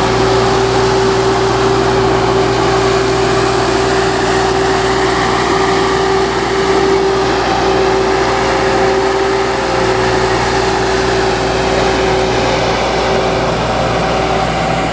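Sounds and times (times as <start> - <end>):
diesel engine running: 0.0 - 14.9
steady whine: 0.0 - 14.9.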